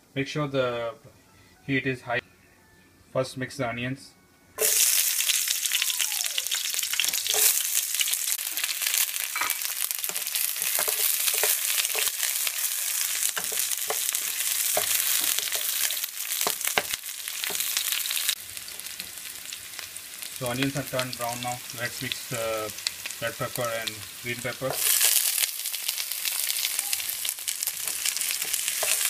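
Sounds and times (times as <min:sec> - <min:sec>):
onions sizzling in oil: 0:04.6 - 0:29.0.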